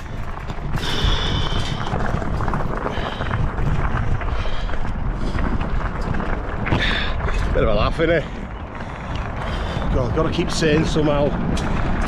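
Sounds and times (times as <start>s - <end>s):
bike rattling and knocking: 0.0s - 12.0s
wind buffeting microphone: 0.0s - 12.0s.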